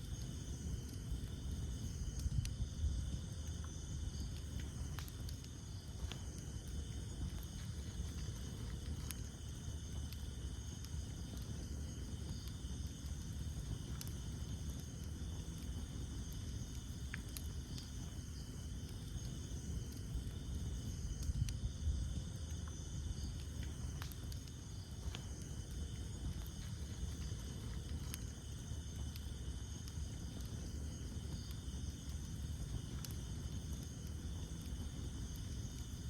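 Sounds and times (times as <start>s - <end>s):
campfire flame rumble: 0.0s - 36.0s
fire crackling and popping: 0.0s - 36.0s
night insects chorus: 0.0s - 36.0s.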